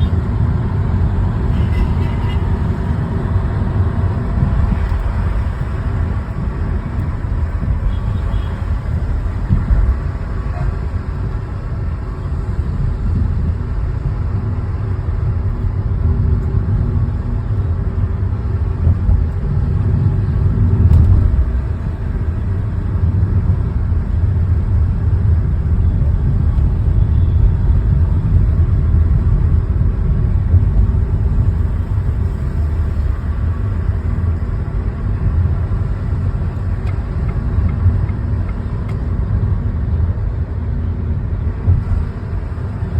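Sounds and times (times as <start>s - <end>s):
car engine and tyres rumbling: 0.0s - 42.9s
traffic noise: 0.0s - 42.9s.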